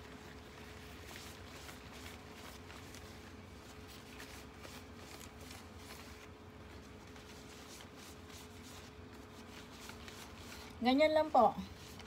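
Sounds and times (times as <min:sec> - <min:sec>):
cloth rustling over leaves: 0:00.0 - 0:12.0
faint steady hum: 0:00.0 - 0:12.0.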